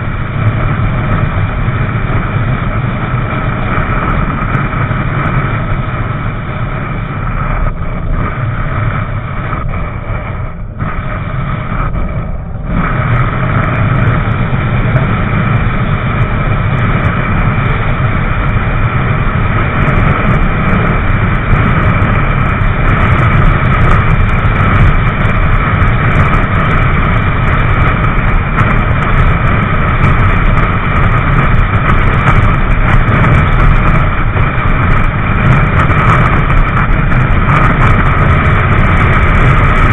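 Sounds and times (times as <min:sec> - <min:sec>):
motorcycle engine drone: 0:00.0 - 0:39.9
wind noise on microphone: 0:00.0 - 0:39.9.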